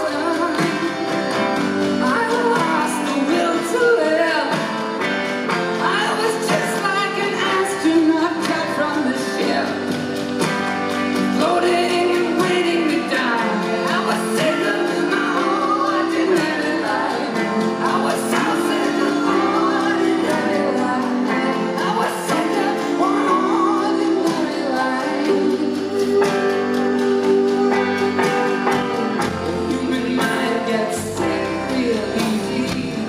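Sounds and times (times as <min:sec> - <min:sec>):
drums: 0:00.0 - 0:33.0
electric guitar: 0:00.0 - 0:33.0
vocalist singing: 0:00.0 - 0:33.0.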